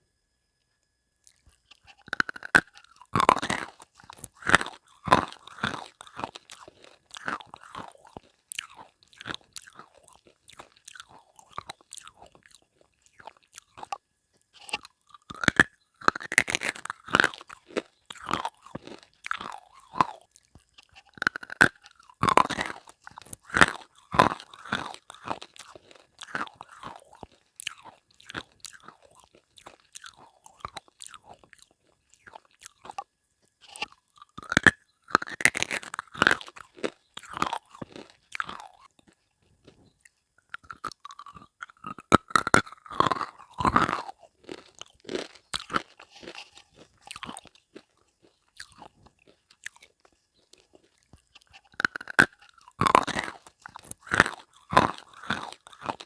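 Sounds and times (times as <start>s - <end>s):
biting and chewing hard pieces: 1.2s - 56.0s.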